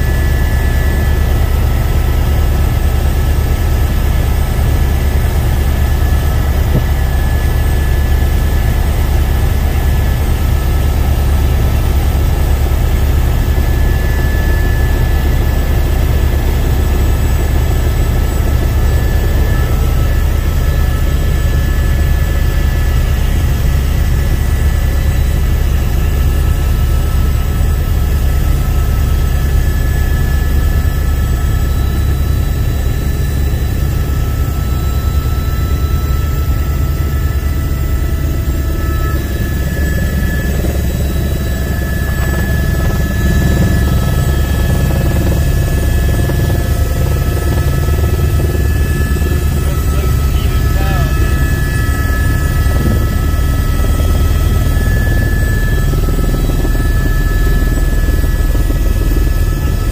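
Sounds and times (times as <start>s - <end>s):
faint high engine whine: 0.0s - 59.9s
helicopter rotor drone: 0.0s - 59.9s.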